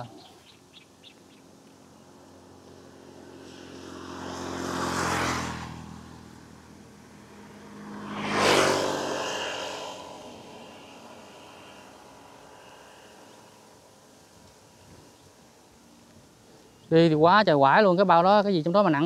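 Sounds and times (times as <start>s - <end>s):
vehicles driving past: 0.0s - 19.0s.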